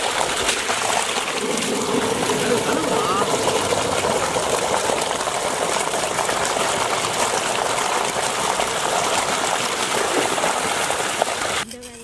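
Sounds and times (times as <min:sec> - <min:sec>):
water gushing from a pipe: 0:00.0 - 0:11.6
water splashing onto ground: 0:00.0 - 0:11.6.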